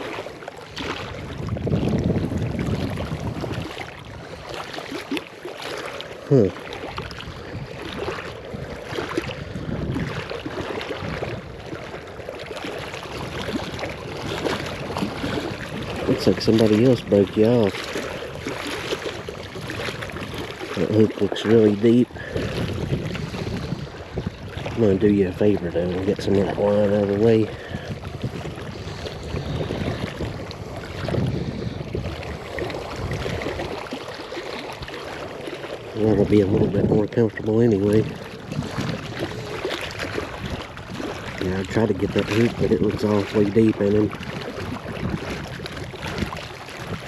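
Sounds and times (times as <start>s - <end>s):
wind buffeting microphone: 0.0s - 5.2s, 5.9s - 47.0s
lake water lapping: 0.0s - 47.0s.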